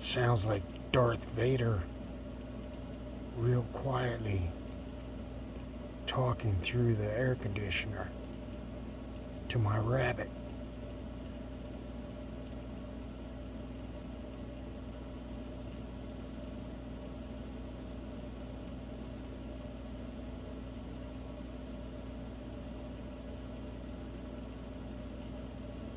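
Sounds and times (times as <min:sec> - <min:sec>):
air conditioner humming: 0:00.0 - 0:25.9.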